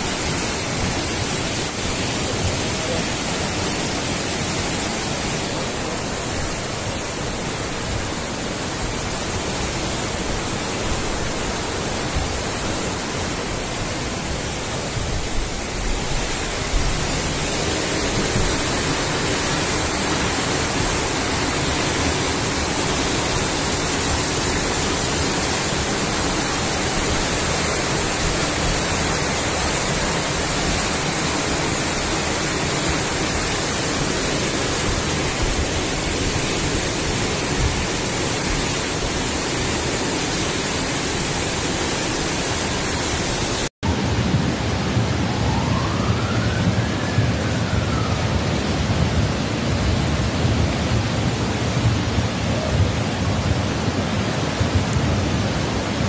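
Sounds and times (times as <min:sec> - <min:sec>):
river water rushing: 0:00.0 - 0:46.3, 0:47.9 - 0:56.0.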